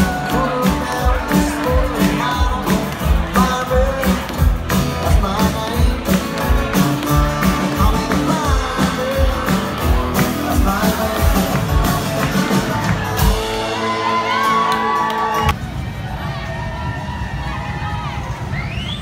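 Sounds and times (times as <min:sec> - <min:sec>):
person singing: 0:00.0 - 0:15.4
drum kit beat: 0:00.0 - 0:15.5
strummed acoustic guitars: 0:00.0 - 0:15.5.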